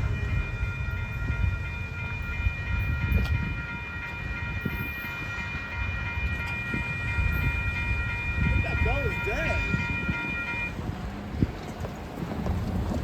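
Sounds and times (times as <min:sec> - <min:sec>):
high-pitched ringing tone: 0:00.0 - 0:10.7
train rumbling on rails: 0:00.0 - 0:13.0.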